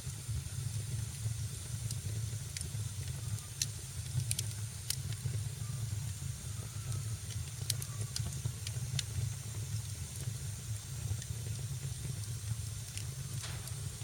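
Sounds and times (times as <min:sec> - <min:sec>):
fire rumble and hiss: 0:00.0 - 0:14.0
sharp fire crackles: 0:00.0 - 0:14.0.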